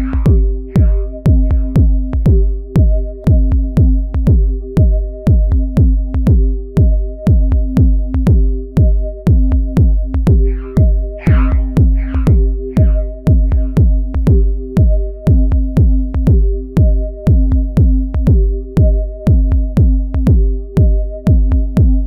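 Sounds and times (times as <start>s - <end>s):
sustained synth notes: 0.0s - 5.2s, 9.1s - 22.0s
drum machine kick drums: 0.0s - 22.0s.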